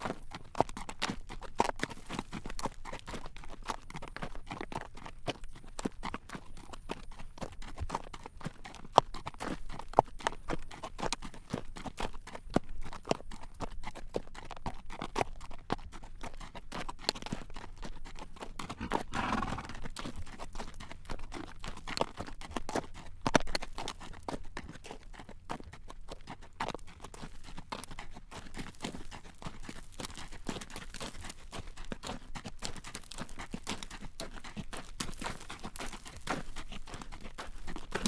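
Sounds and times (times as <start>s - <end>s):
horse hooves on pavement: 0.0s - 38.0s.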